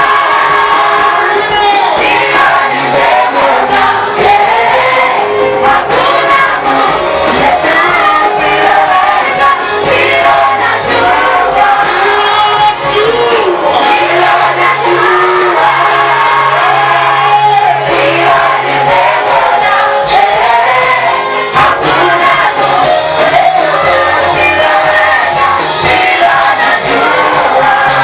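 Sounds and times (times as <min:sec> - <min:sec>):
voices singing gospel: 0:00.0 - 0:28.0.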